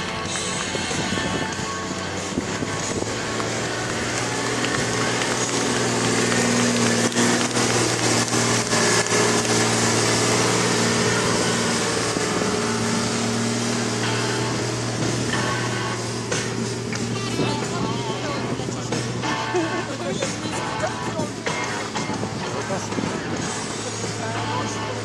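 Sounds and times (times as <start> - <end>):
truck engine driving past: 0.0 - 25.0.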